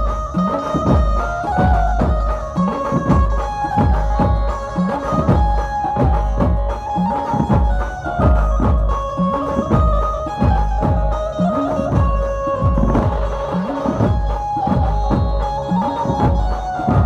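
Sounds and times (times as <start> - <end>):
hand drum beat: 0.0 - 17.0
held melody line: 0.0 - 17.0.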